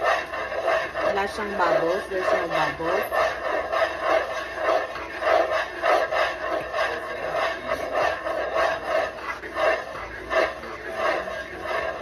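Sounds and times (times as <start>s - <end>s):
spoon scraping a pot: 0.0s - 12.0s.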